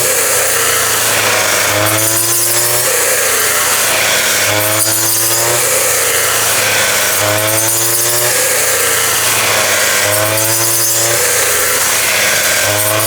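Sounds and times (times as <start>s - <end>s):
threshing machine running: 0.0s - 13.0s.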